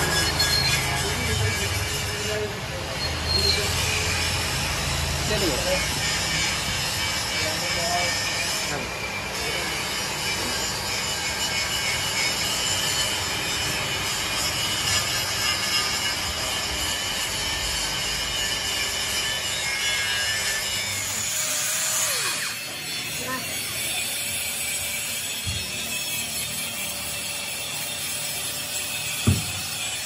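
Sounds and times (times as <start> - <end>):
workshop machinery grinding: 0.0 - 30.0.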